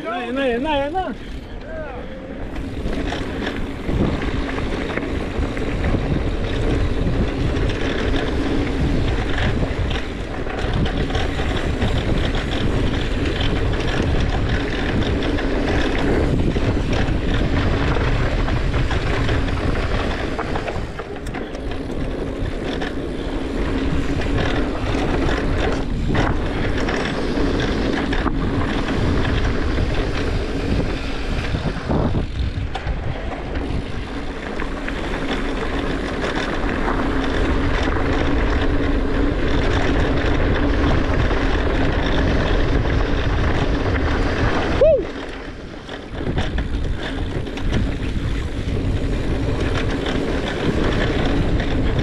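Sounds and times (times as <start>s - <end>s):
bike tyres rumbling over dirt: 0.0s - 52.0s
wind buffeting microphone: 0.0s - 52.0s.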